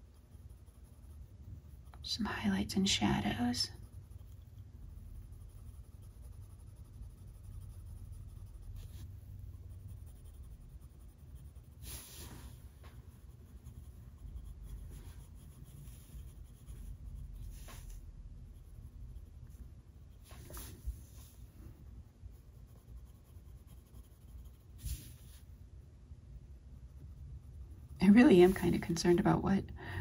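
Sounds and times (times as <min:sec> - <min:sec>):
pencil strokes scratching paper: 0:00.0 - 0:25.5, 0:26.8 - 0:29.4
low steady hum: 0:00.0 - 0:30.0.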